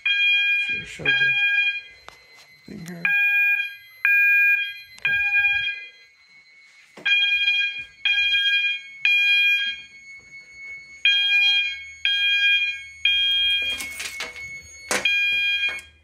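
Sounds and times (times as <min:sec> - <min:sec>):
fire alarm beeps: 0:00.0 - 0:16.0.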